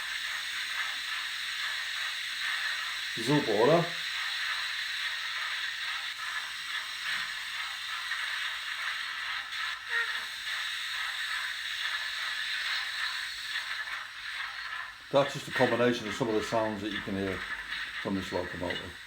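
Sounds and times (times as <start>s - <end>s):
steam hiss from small speaker: 0.0s - 19.0s.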